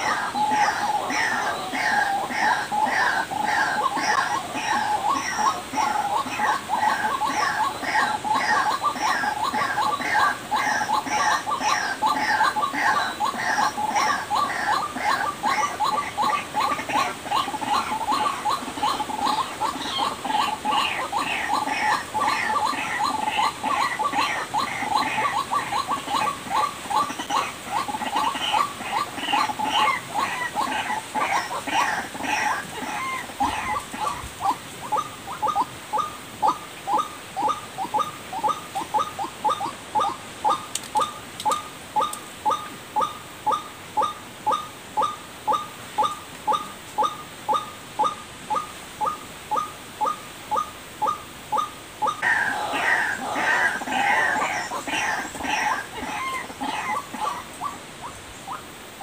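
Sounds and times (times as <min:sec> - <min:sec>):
bird repeated short calls: 0:00.0 - 0:58.7
higher-pitched bird calls: 0:00.0 - 0:58.7.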